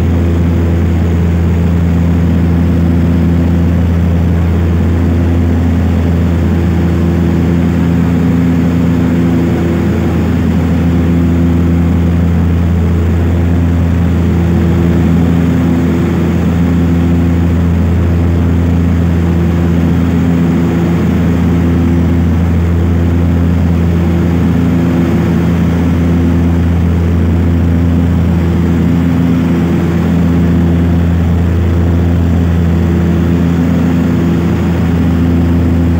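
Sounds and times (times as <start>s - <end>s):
propeller airplane cabin drone: 0.0s - 35.9s.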